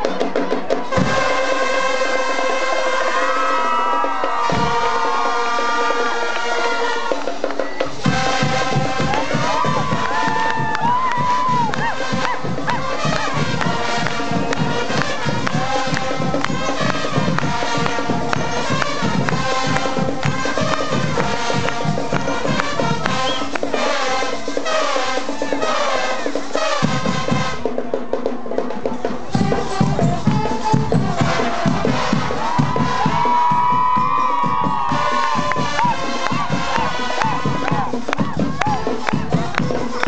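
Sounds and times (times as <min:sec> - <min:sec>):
brass melody: 0:00.0 - 0:27.9, 0:29.2 - 0:40.0
steady drum beat: 0:00.0 - 0:40.0.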